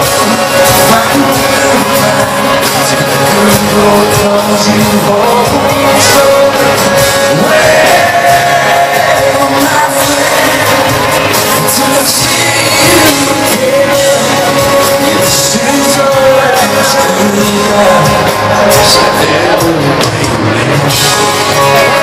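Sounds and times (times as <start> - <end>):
country rock band playing: 0.0 - 22.0
crowd singing and shouting: 0.0 - 22.0.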